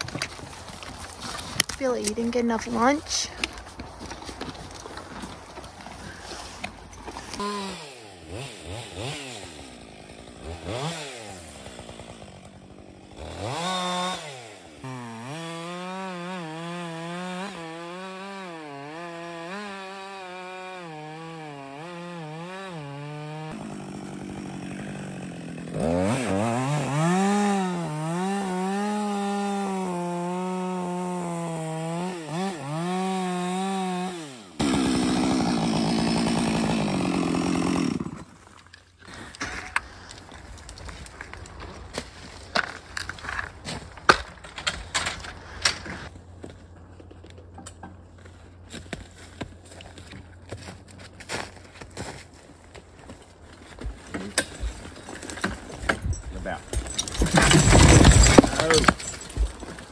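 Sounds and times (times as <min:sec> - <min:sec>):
chainsaw cutting tree: 0:00.0 - 0:43.5, 0:52.8 - 0:59.9.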